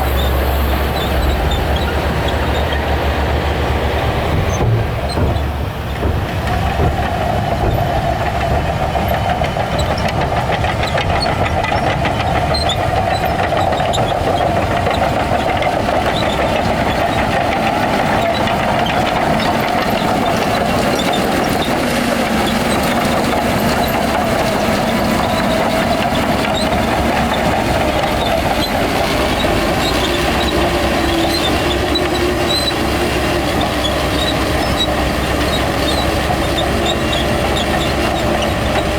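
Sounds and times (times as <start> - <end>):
bulldozer engine under load: 0.0 - 38.9
tracks rattling: 0.0 - 38.9.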